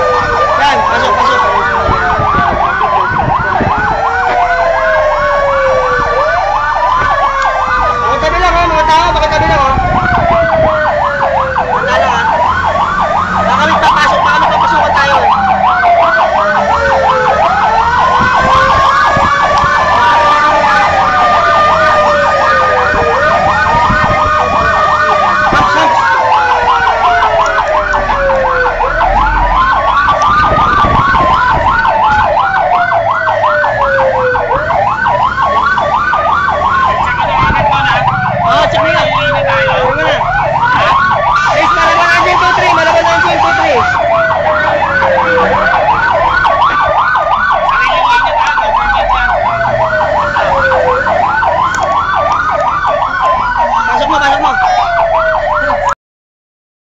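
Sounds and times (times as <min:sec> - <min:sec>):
fire engine siren yelp: 0:00.0 - 0:56.0
siren wail: 0:00.0 - 0:56.0.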